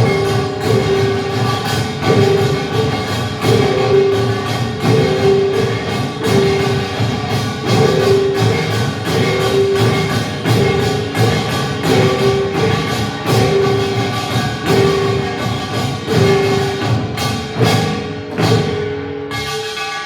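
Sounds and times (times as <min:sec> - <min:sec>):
held note: 0:00.0 - 0:17.1
live music with percussion: 0:00.0 - 0:20.0.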